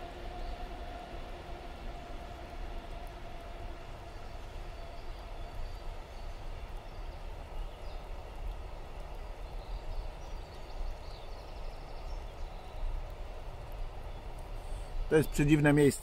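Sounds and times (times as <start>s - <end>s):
train rumbling on railway: 0.0s - 16.0s.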